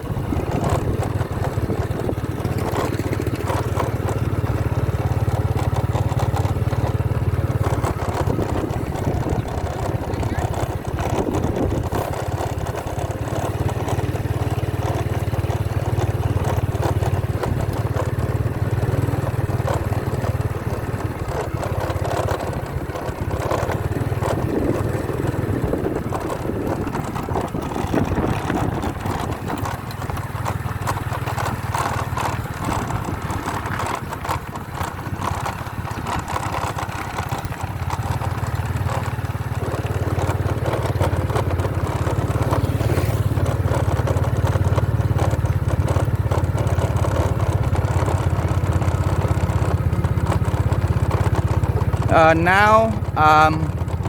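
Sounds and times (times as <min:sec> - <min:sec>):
motorcycle engine drone: 0:00.0 - 0:54.0
road and riding noise: 0:00.0 - 0:54.0.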